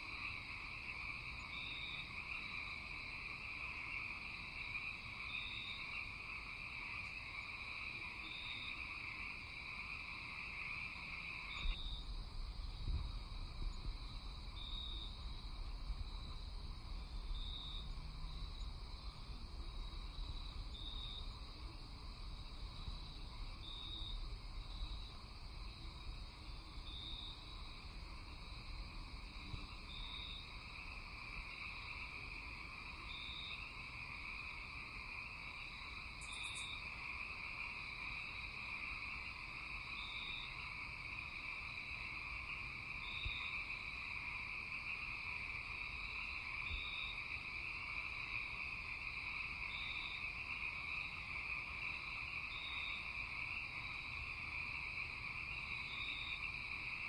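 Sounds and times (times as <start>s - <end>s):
insects and frogs trilling: 0.0s - 57.0s.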